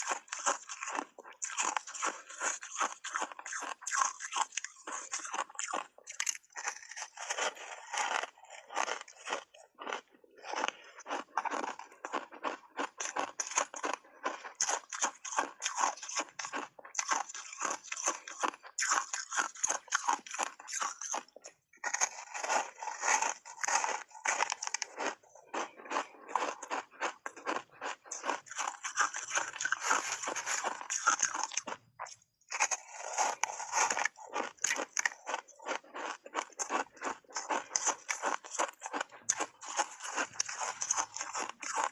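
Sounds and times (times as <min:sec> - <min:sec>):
person chewing crunchy ice: 0:00.0 - 0:41.9.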